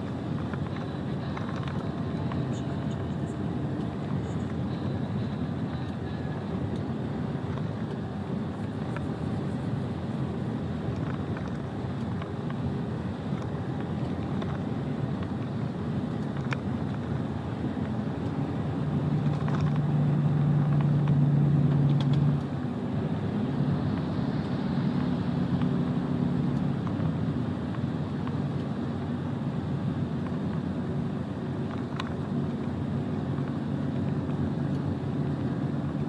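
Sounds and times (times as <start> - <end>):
truck engine and road rumble: 0.0 - 36.0.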